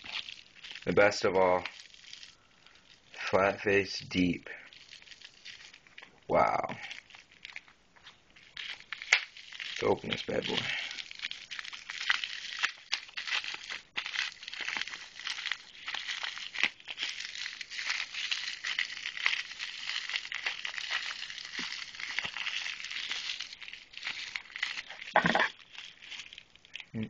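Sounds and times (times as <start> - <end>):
plastic wrapping crinkling: 0.0 - 3.4, 4.2 - 27.0.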